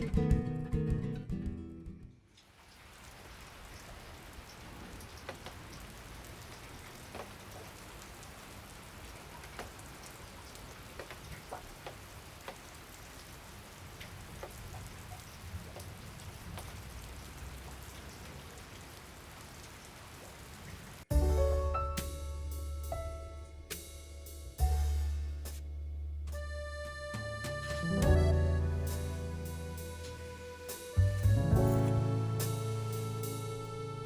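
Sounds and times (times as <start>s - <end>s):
steady rain falling: 1.8s - 34.0s.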